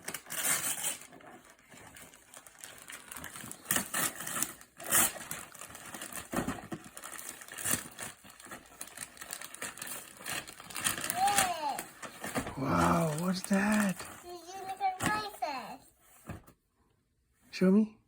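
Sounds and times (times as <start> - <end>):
paper crinkling: 0.0 - 15.4
wrapping paper tearing: 0.0 - 15.4.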